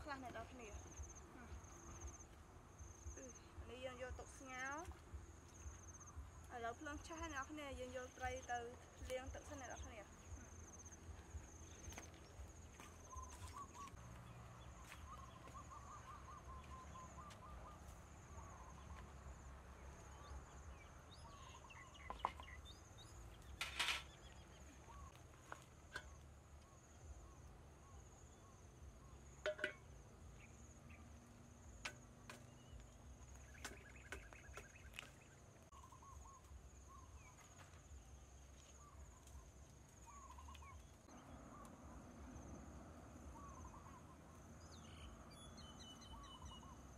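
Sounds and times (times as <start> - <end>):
small birds chirping: 0.0 - 42.5, 43.2 - 46.9.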